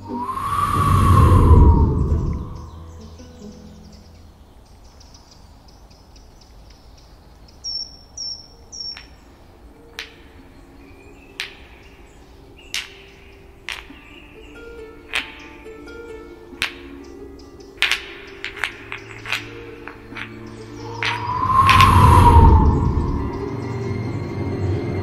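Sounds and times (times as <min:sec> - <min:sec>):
bird chirping: 0:00.8 - 0:25.0.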